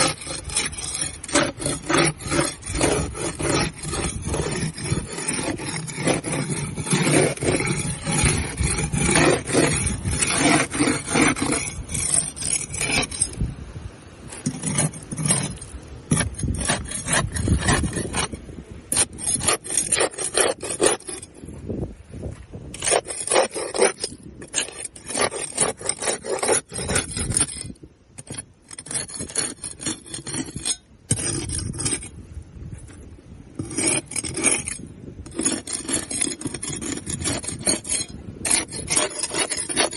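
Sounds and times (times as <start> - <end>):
scraping barnacles off hull: 0.0 - 13.6, 14.2 - 39.9.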